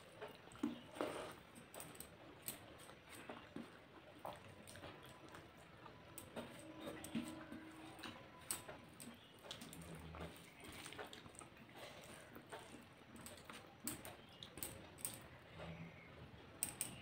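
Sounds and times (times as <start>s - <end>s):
quiet chewing: 0.0s - 17.0s.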